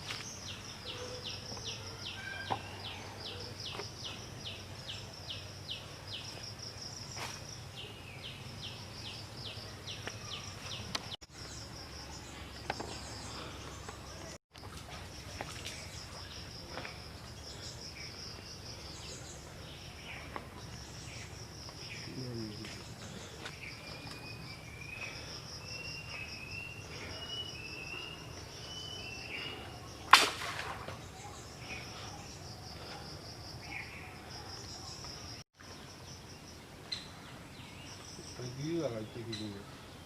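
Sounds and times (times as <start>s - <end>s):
bird chirping: 0.0s - 14.4s, 17.2s - 30.1s, 31.0s - 40.0s
insects trilling: 0.0s - 40.0s.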